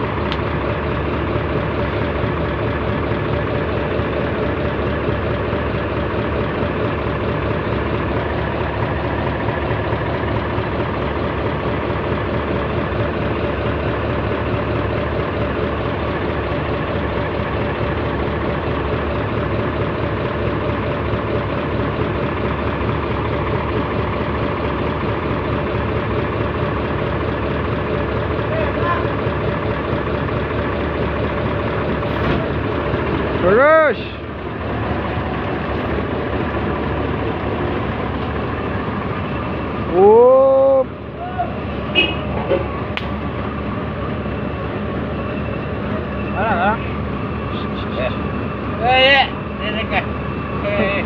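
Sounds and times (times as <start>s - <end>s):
heavy diesel engine running: 0.0s - 51.0s.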